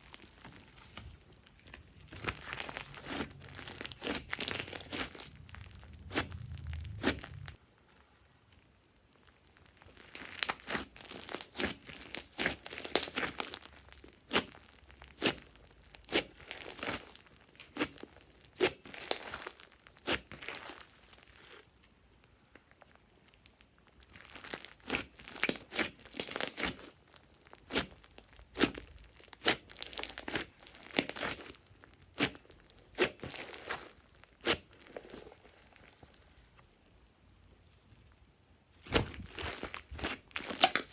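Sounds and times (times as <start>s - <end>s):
slime crackling and popping: 0.0s - 8.0s, 8.6s - 40.9s.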